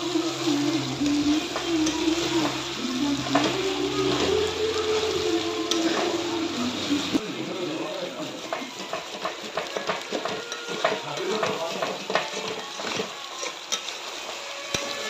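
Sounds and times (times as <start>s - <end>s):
spatula scraping a wok: 0.0s - 7.2s, 8.2s - 15.0s
chicken sizzling: 0.0s - 15.0s.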